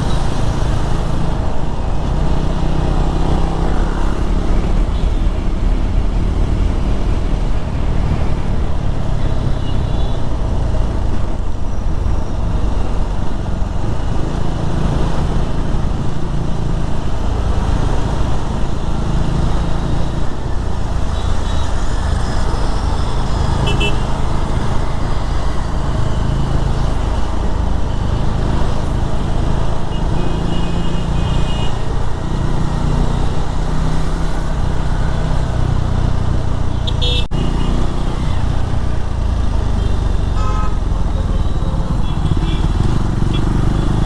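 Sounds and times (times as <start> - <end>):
motorcycle engine: 0.0 - 44.0
road rumble: 0.0 - 44.0.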